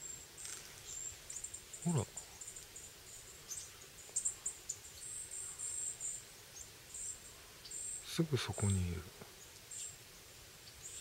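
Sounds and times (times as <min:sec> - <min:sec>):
small songbird chirping: 0:00.0 - 0:11.0.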